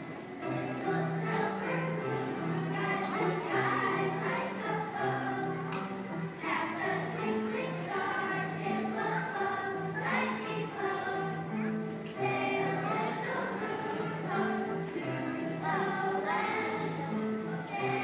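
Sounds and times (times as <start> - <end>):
children's choir singing: 0.0 - 18.0
musical accompaniment: 0.0 - 18.0.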